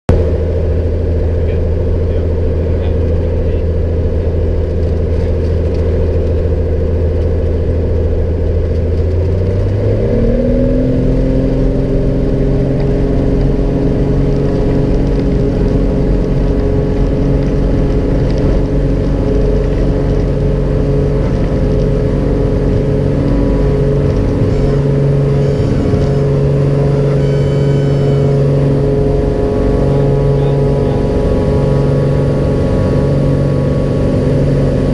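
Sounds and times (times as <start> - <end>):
propeller plane engine running: 0.1 - 34.9.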